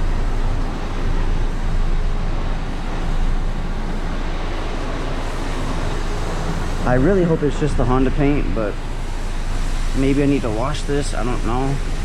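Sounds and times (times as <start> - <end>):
continuous rumbling: 0.0 - 12.0
low mechanical hum: 0.0 - 12.0.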